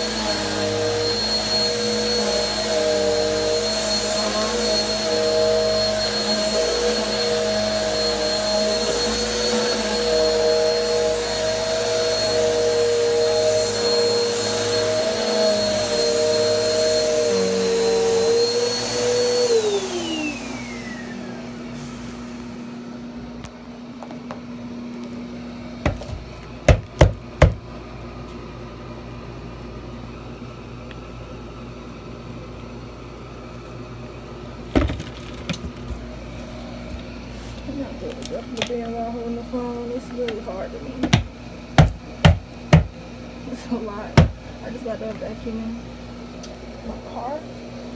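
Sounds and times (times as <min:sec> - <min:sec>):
upright vacuum running on carpet: 0:00.0 - 0:47.9.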